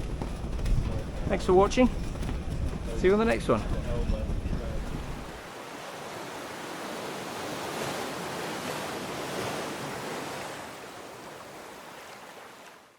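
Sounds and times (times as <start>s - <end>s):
surf washing: 0.0s - 12.9s.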